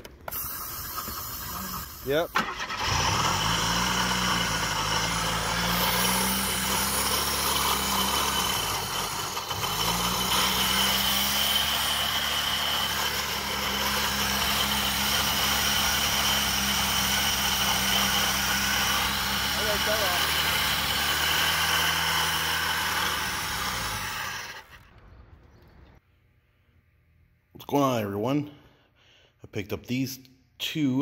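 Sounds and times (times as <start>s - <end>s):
car engine idling and sagging: 0.0s - 25.9s.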